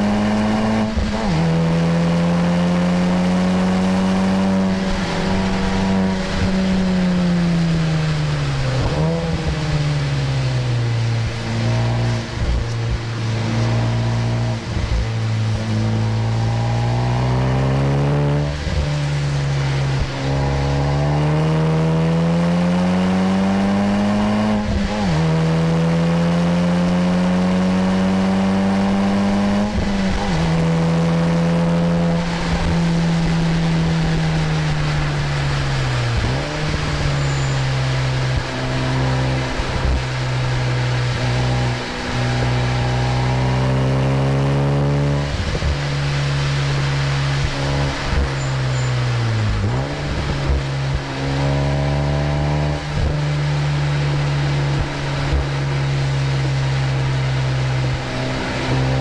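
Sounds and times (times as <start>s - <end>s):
car engine under hard driving: 0.0s - 59.0s.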